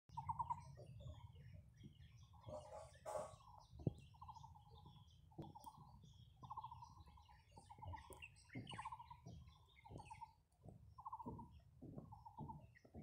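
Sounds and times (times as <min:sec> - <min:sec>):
birds chirping: 0:00.1 - 0:13.0.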